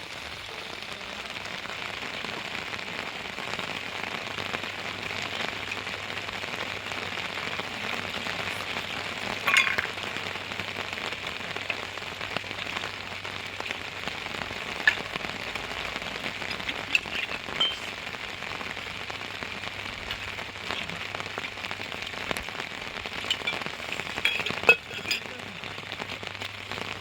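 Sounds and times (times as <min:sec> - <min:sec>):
rain pattering: 0:00.0 - 0:27.0
drips ticking: 0:03.6 - 0:26.6.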